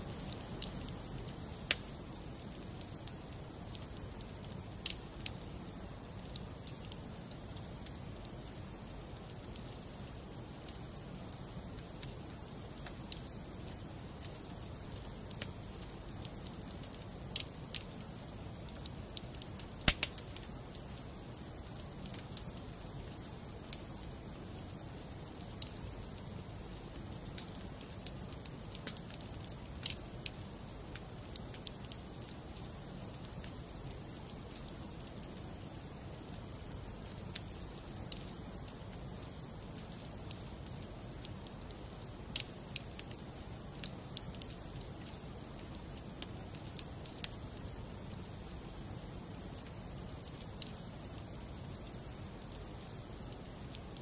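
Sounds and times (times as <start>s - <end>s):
logs crackling and popping: 0.0s - 54.0s.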